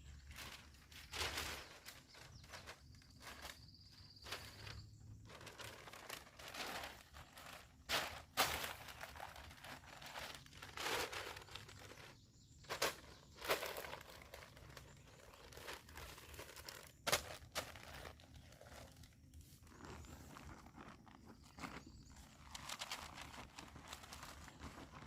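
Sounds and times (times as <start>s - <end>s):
material crinkling and rustling: 0.0s - 25.0s.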